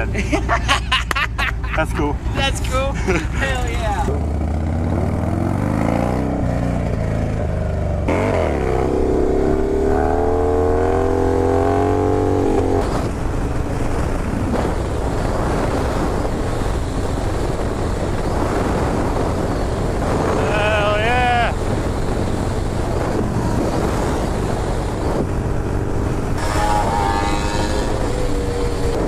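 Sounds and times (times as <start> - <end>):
wind rush over microphone: 2.0 - 29.0
motorcycle engine pulling away: 4.1 - 29.0.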